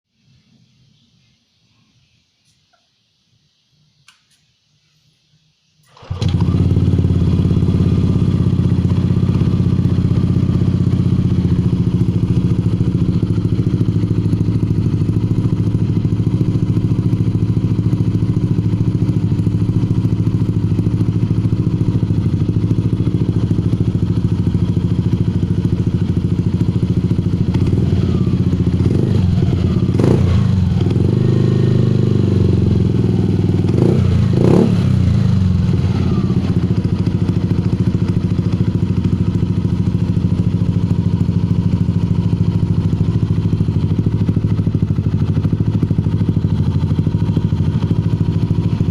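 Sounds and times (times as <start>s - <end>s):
scooter engine idling: 5.9s - 48.9s.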